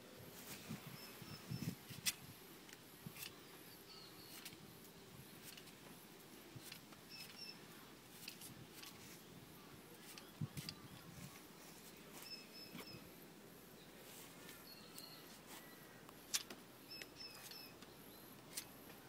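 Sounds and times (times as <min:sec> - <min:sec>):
small bird chirping: 0:00.6 - 0:02.2, 0:03.0 - 0:05.9, 0:06.6 - 0:19.0.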